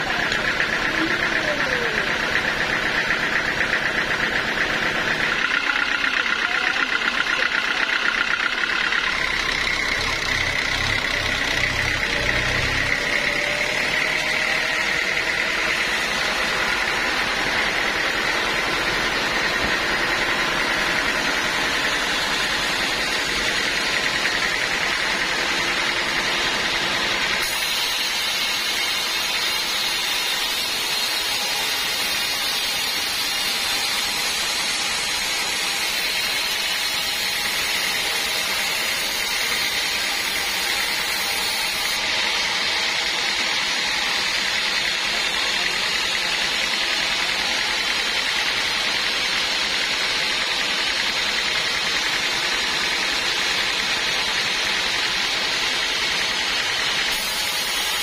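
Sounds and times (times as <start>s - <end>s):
band sawmill drone and whine: 0.0s - 58.0s.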